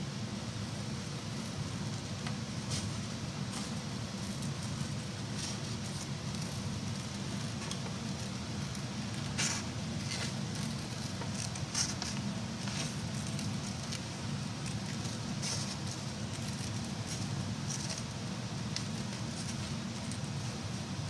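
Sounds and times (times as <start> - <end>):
steady low hum: 0.0 - 21.0
paper crackle: 2.3 - 20.9.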